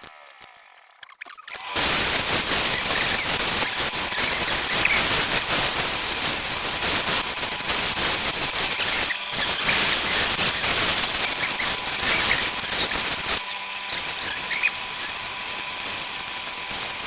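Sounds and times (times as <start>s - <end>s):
tool scraping spinning wood on lathe: 0.0s - 17.0s.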